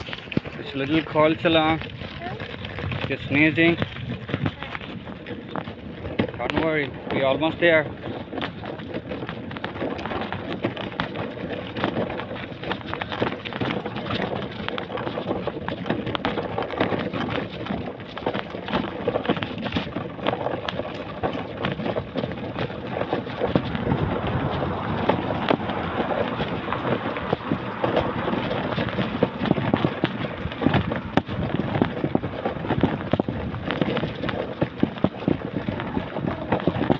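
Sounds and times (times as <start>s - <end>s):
wheels crackling over pavement: 0.0s - 36.9s
wind rumbling on microphone: 0.0s - 36.9s.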